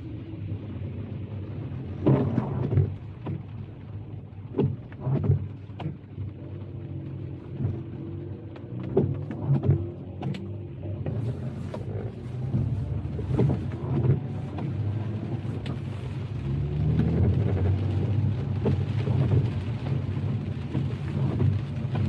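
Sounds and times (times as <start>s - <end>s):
car road rumble: 0.0s - 22.0s.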